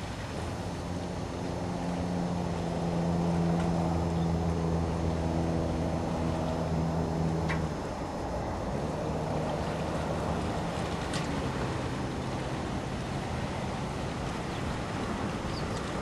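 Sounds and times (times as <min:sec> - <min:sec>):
motor engine droning: 0:00.0 - 0:16.0.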